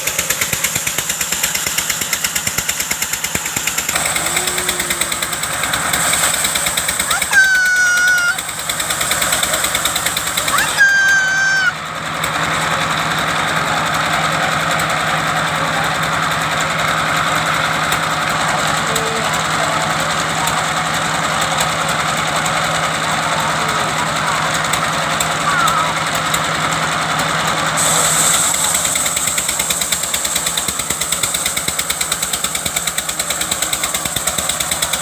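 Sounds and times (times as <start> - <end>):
wood-cutting machine engine: 0.0 - 35.0.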